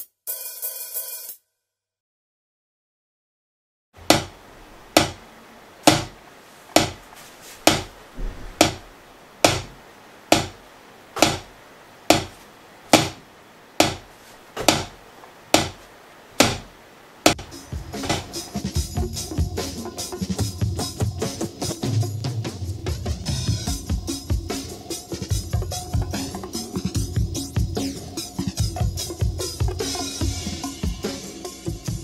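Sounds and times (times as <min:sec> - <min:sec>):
drumstick tapping pads: 0:04.0 - 0:10.6, 0:11.2 - 0:31.4.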